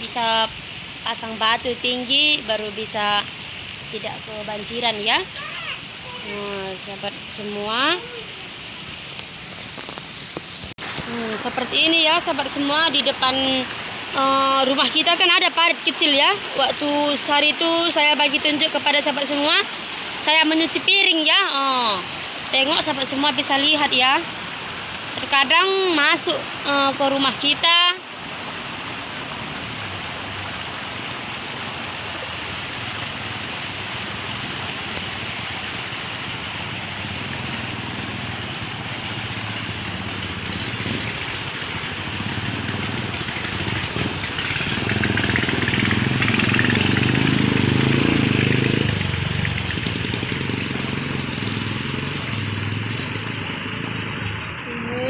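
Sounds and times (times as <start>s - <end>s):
floodwater rushing in a ditch: 0.0s - 55.0s.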